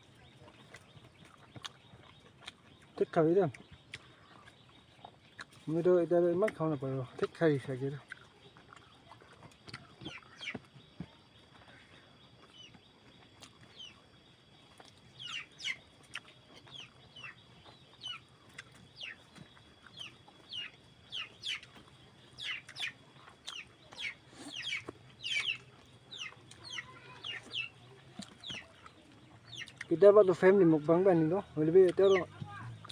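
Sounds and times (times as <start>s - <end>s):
birds calling: 0.0s - 32.9s.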